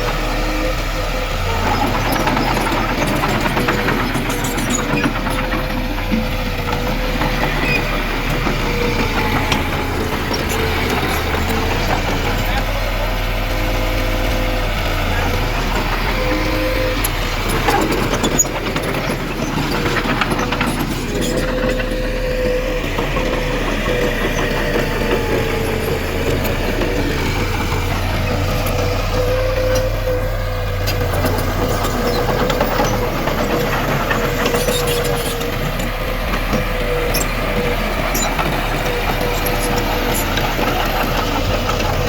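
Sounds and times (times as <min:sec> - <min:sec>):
diesel engine of heavy machinery: 0:00.0 - 0:42.0.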